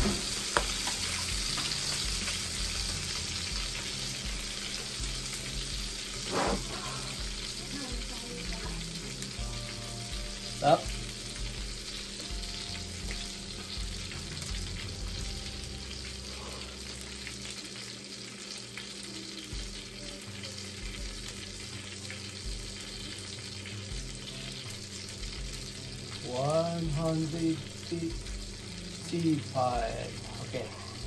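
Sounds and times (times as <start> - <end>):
butter sizzling in a pan: 0.0 - 31.0.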